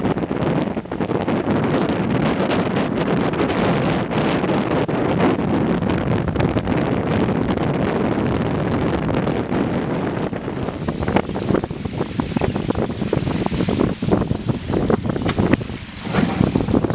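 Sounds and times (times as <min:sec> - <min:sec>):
boat running through water: 0:00.0 - 0:16.9
wind buffeting microphone: 0:00.0 - 0:16.9.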